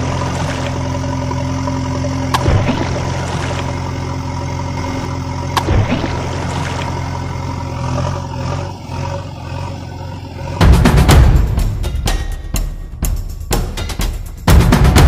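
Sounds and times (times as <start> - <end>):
diesel engine idling: 0.0 - 12.1.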